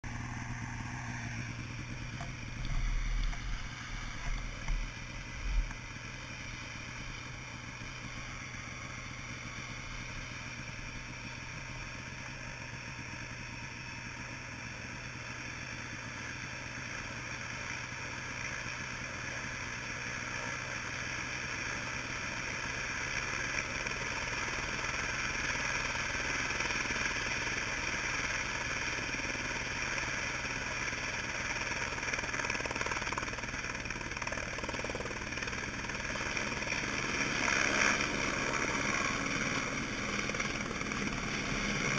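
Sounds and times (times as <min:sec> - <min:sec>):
helicopter turbine whining: 0:00.0 - 0:41.9.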